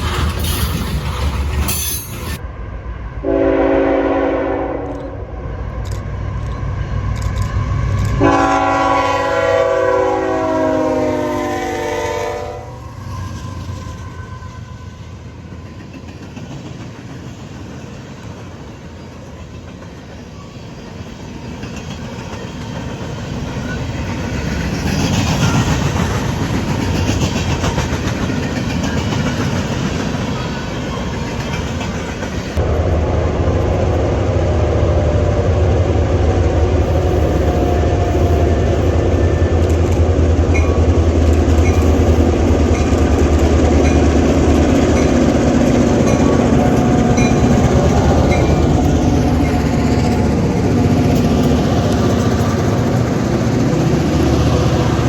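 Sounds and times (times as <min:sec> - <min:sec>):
train clickety-clack on rails: 0:00.0 - 0:02.4, 0:03.2 - 0:55.0
locomotive low drone: 0:00.0 - 0:16.7, 0:23.3 - 0:55.0.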